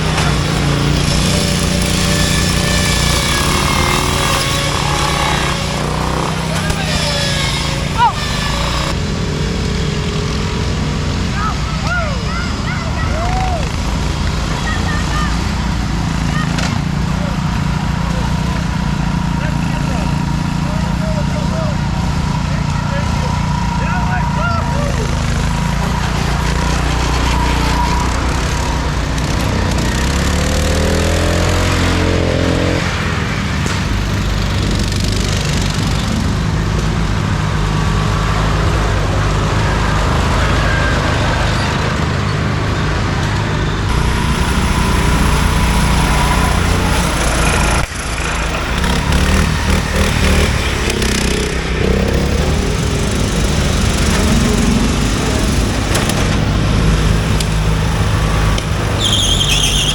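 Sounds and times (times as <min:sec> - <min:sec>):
lawn mower engines revving: 0:00.0 - 0:59.9.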